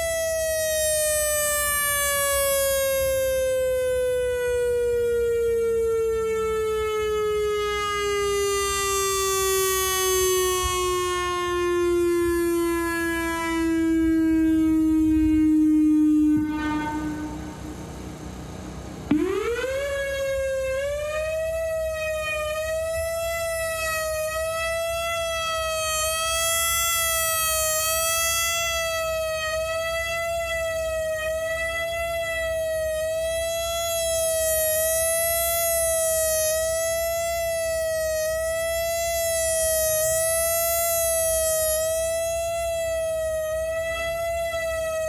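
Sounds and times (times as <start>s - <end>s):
outdoor warning siren: 0.0s - 45.0s.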